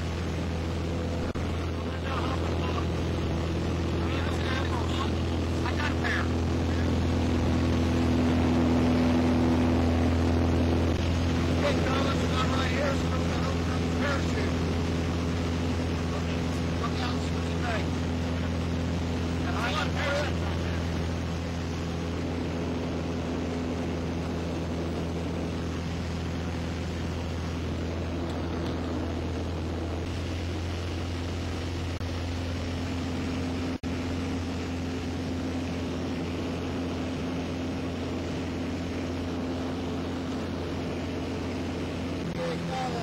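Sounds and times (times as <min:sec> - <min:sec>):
propeller airplane engine drone: 0:00.0 - 0:43.0.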